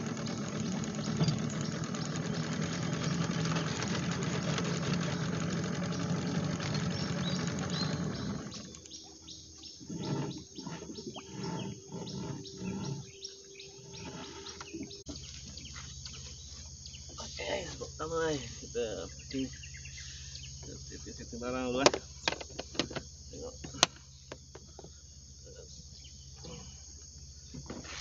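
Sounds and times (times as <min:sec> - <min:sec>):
small boat engine running: 0:00.0 - 0:27.9
insects chirping: 0:00.0 - 0:28.0.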